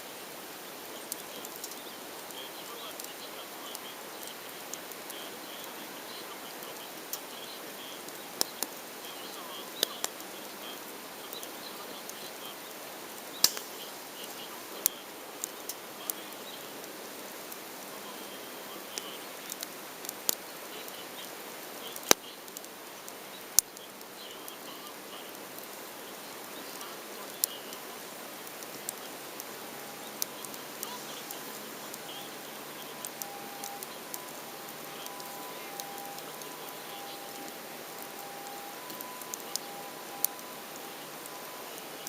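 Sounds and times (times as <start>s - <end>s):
campfire crackling and popping: 0.0s - 42.0s
fire hissing: 0.0s - 42.0s.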